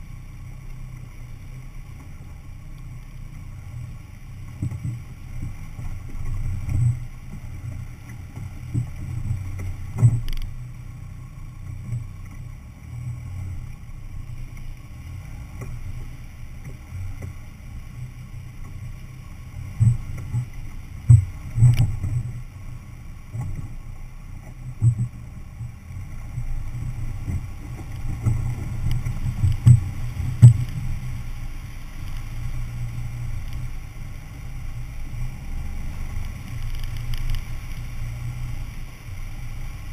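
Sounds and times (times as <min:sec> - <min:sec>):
vehicle driving through water: 0:00.0 - 0:39.9.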